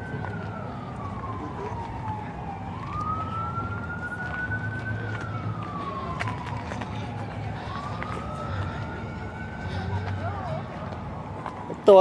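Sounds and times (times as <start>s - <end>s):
outdoor background noise: 0.0s - 12.0s
siren wailing: 0.0s - 12.0s.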